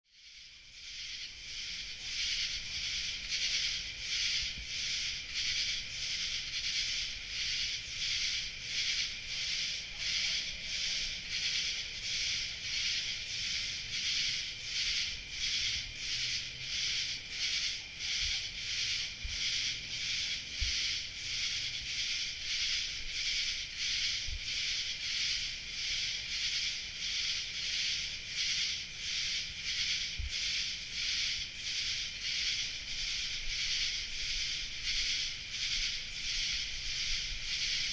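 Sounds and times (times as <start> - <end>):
night insects pulsing chorus: 0.1 - 37.9.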